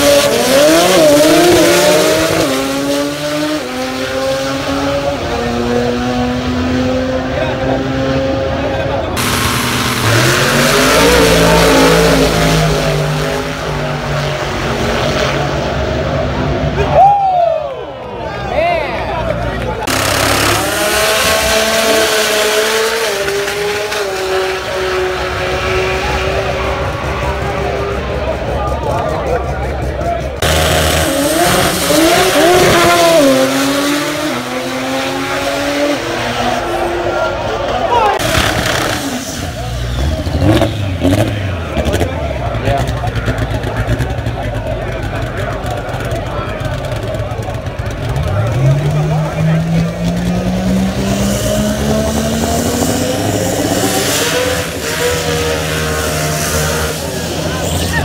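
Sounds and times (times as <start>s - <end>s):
race car engine revving: 0.0s - 16.9s, 19.0s - 58.0s.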